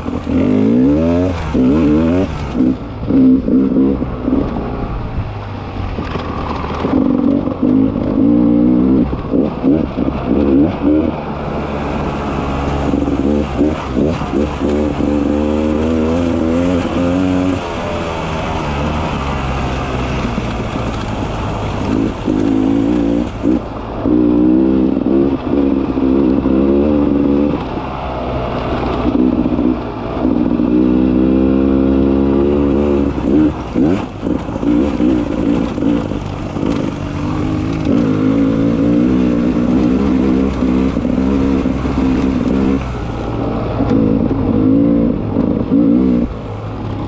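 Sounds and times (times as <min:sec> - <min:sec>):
dirt bike engine revving: 0:00.0 - 0:04.8, 0:06.5 - 0:27.8, 0:28.6 - 0:46.4.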